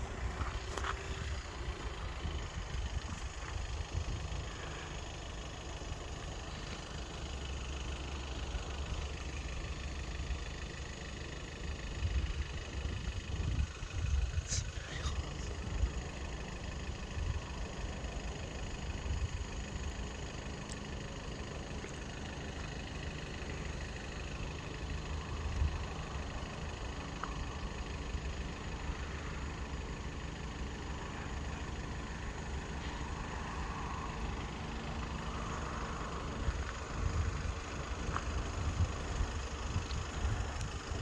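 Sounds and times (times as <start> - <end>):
vehicle engine idling: 0.0 - 41.0.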